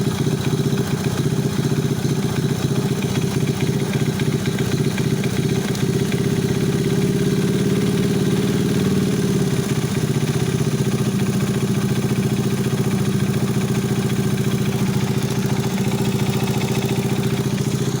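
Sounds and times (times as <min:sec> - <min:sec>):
moped engine clattering: 0:00.0 - 0:18.0.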